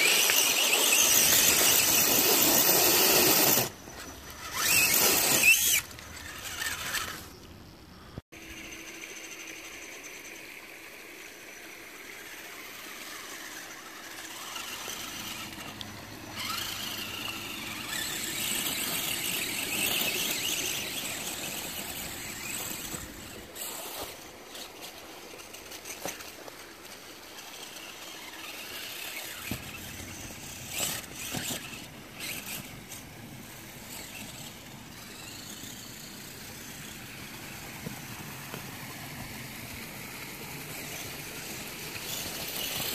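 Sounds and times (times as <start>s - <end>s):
motor and gears whining: 0.0s - 42.9s.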